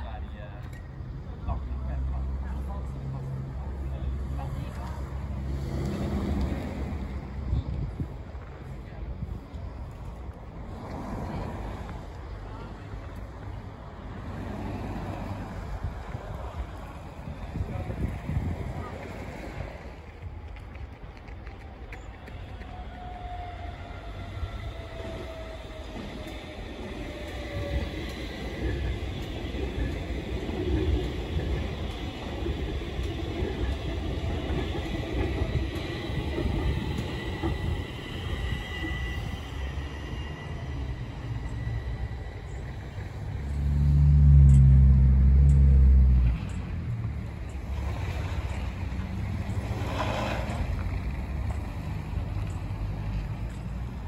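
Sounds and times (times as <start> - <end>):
metro train wheels rumbling: 0.0 - 54.0
train whine: 0.0 - 54.0.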